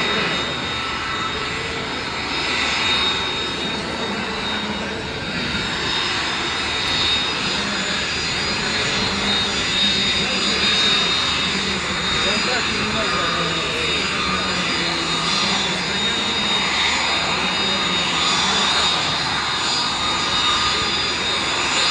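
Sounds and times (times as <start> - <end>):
aircraft engines running: 0.0 - 21.9.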